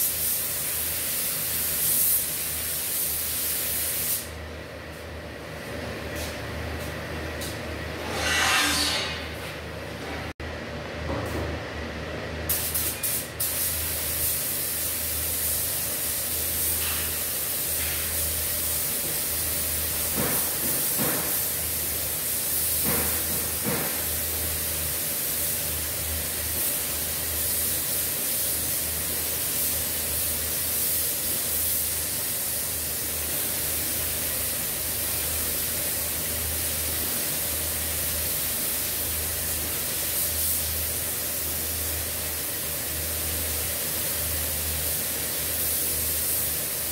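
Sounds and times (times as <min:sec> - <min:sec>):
paint spray gun hissing: 0:00.0 - 0:04.3, 0:12.5 - 0:46.9.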